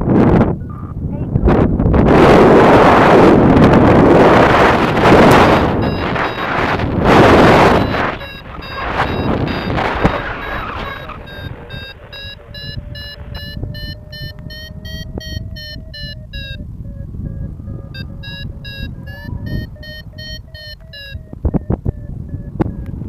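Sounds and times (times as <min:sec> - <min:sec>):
wind buffeting microphone: 0:00.0 - 0:23.0
variometer beeping: 0:03.6 - 0:23.0.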